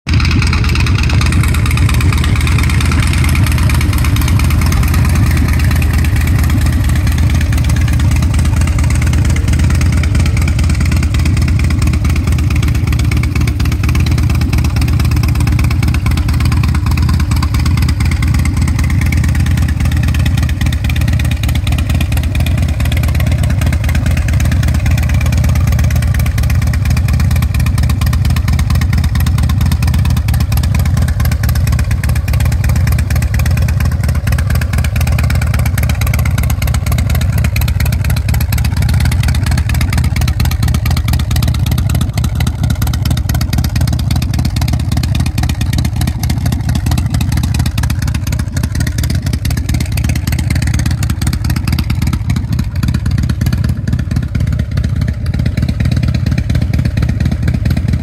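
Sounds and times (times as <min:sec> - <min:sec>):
motorcycle engine idling: 0:00.1 - 0:58.0.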